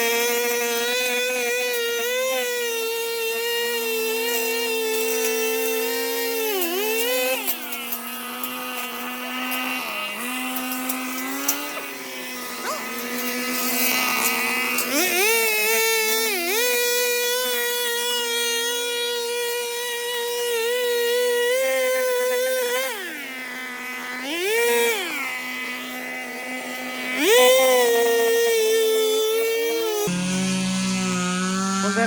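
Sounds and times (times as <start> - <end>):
brush cutter engine whining: 0.0 - 32.0.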